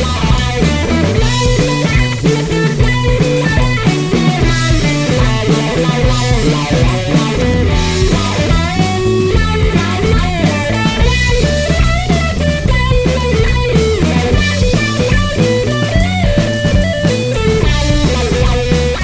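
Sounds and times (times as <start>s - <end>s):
rock music with guitar and drums: 0.0s - 19.0s.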